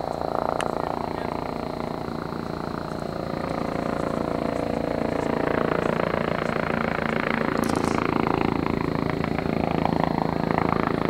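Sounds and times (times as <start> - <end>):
helicopter engine noise: 0.0 - 11.0
helicopter rotor chop: 0.0 - 11.0.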